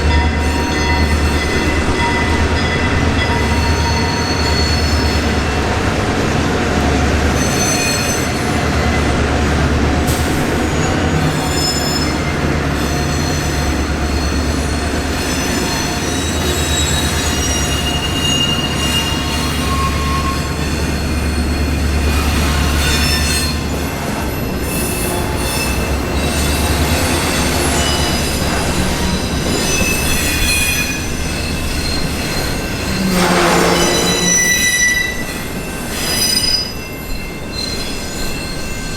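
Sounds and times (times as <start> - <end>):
train rumbling past: 0.0 - 38.9
wheel squeal on rails: 0.1 - 9.1, 10.1 - 38.9.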